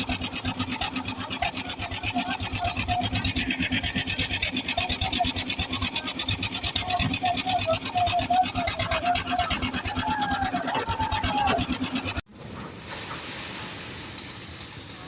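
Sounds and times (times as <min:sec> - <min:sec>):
engine chugging: 0:00.0 - 0:15.0.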